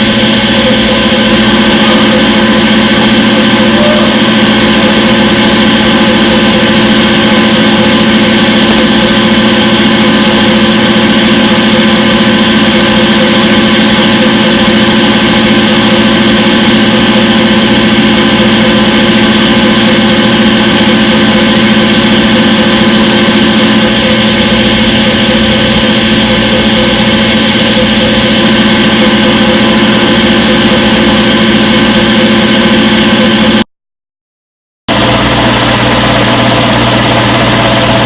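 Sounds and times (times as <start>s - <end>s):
washing machine hum and whine: 0.0s - 33.6s, 34.9s - 38.0s.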